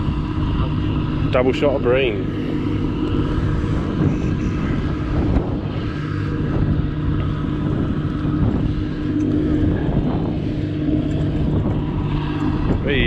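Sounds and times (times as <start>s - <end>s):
motorboat engine drone: 0.0s - 13.0s
wind noise on microphone: 0.0s - 13.0s.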